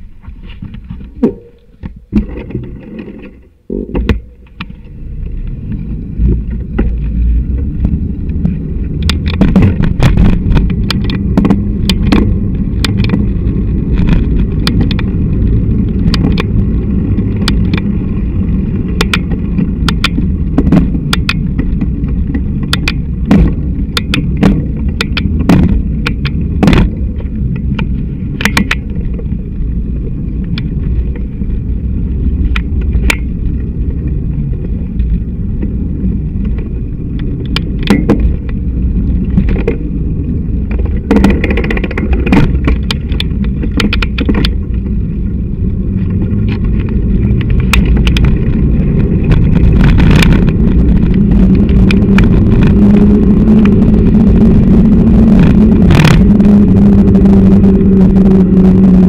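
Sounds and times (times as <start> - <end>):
bike knocking and rattling: 0.0 - 58.2
road vibration and wind rumble: 0.0 - 59.0.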